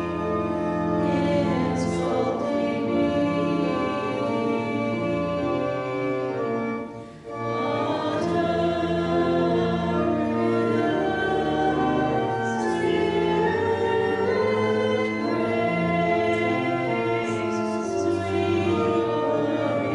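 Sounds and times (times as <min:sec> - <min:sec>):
congregation singing a hymn: 0:00.0 - 0:19.9.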